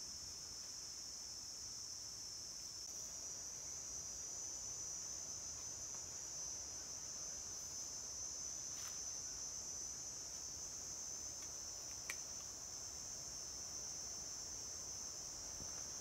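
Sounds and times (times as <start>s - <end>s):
forest insects chorus: 0.0s - 16.0s.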